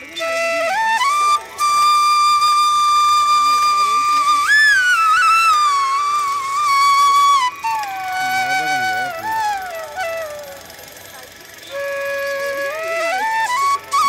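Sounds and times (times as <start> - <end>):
flute melody: 0.0 - 14.0.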